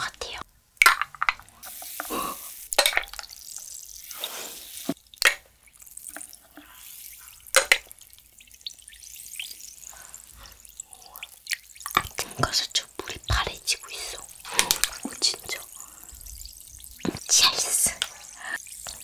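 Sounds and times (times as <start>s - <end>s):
candy plopping into soda: 0.8s - 19.0s
soda fizzing: 0.8s - 19.0s.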